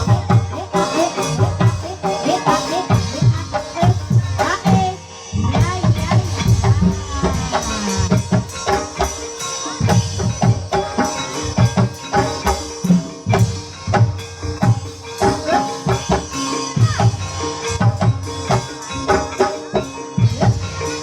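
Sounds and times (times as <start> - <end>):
hand drum strokes: 0.0 - 21.0
struck metallophone notes: 0.0 - 21.0.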